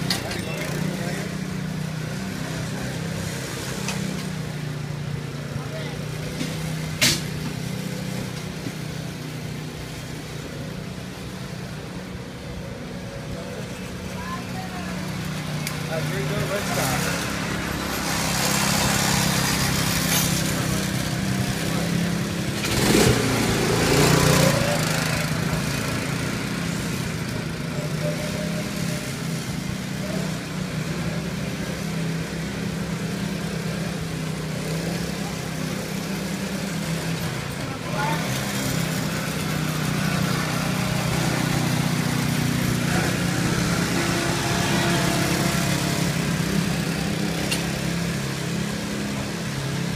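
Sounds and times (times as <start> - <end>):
go-kart engine running: 0.0 - 49.9.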